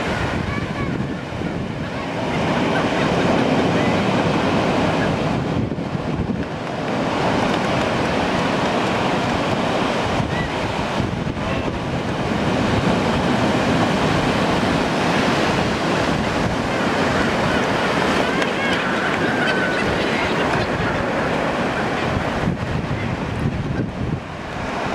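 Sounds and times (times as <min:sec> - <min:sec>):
ocean surf breaking: 0:00.0 - 0:24.9.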